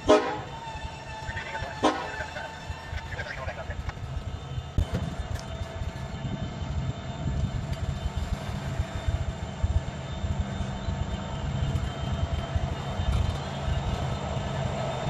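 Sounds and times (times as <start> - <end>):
diesel locomotive rumbling: 0.0 - 15.0
faint constant whine: 0.0 - 15.0.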